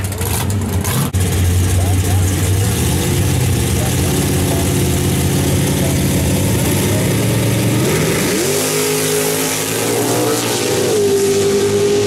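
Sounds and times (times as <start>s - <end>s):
drag racing engines revving: 0.0s - 12.0s.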